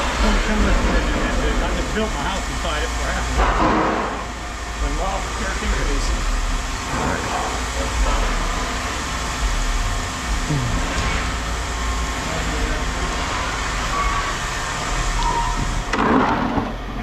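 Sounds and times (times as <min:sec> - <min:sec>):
machinery rumbling: 0:00.0 - 0:17.0.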